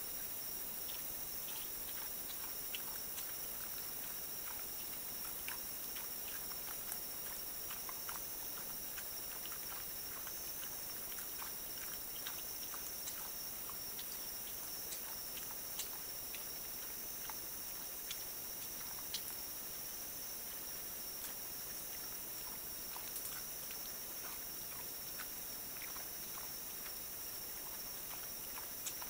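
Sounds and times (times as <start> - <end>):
steady hiss: 0.0 - 29.0
wild boar crunching food: 0.1 - 29.0.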